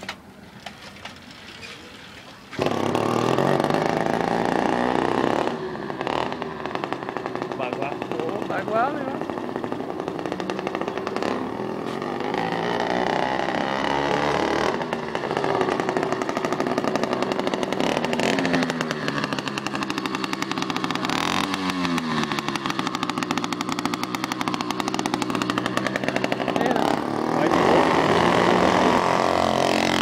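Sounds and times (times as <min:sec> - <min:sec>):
two-stroke engine revving: 0:02.5 - 0:30.0.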